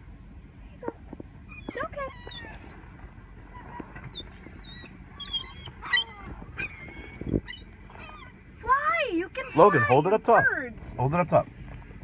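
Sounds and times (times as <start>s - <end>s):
seagulls calling: 0.8s - 10.5s.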